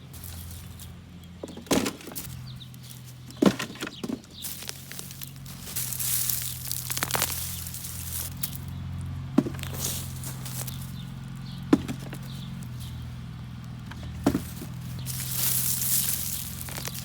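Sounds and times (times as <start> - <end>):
loose soil crumbling and scraping: 0.0 - 17.0.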